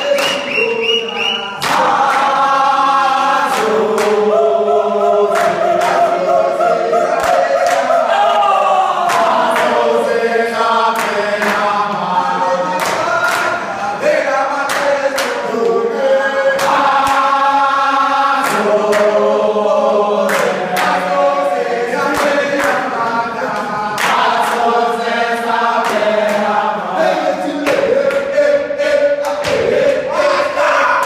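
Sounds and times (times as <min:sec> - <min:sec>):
group of voices chanting: 0:00.0 - 0:31.0.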